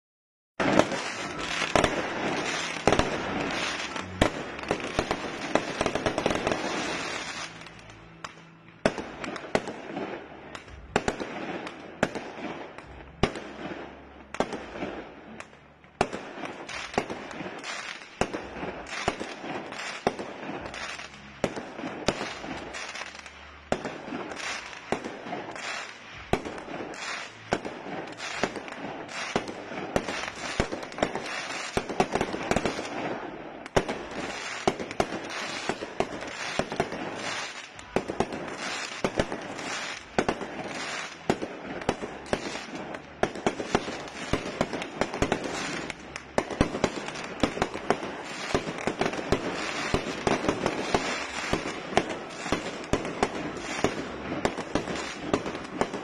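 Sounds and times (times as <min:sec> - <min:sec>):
fireworks bursting: 0:00.6 - 0:56.0.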